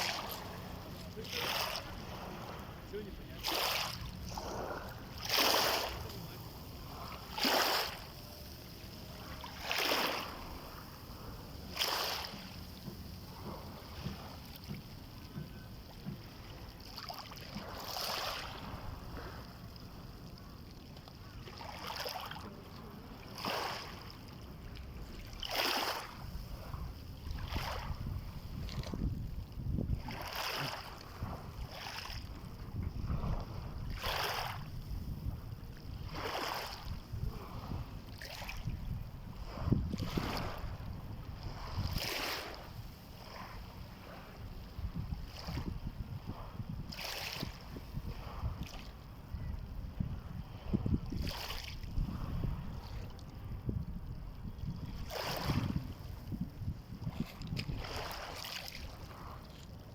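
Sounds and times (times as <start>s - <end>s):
small waves splashing on shore: 0.0s - 59.9s
wind rumble on microphone: 0.0s - 59.9s.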